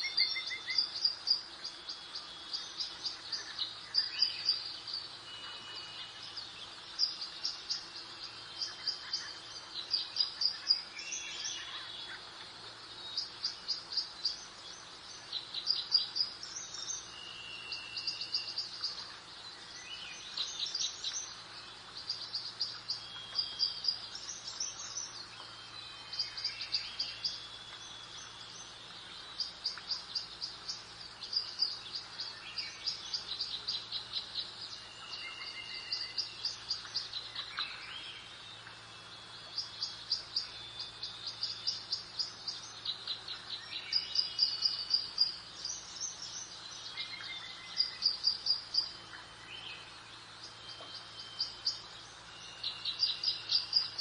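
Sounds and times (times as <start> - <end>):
soft background hiss: 0.0 - 54.0
songbirds chirping and trilling: 0.0 - 54.0.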